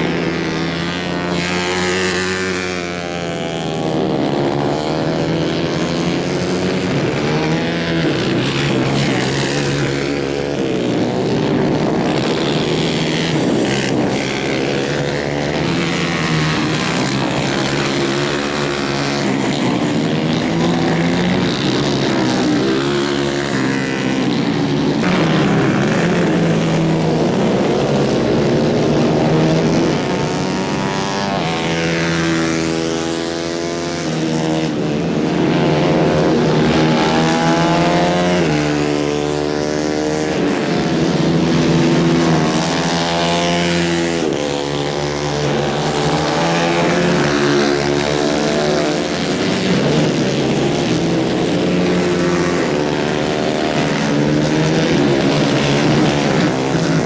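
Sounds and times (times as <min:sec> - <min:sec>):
racing kart engines: 0:00.0 - 0:57.0.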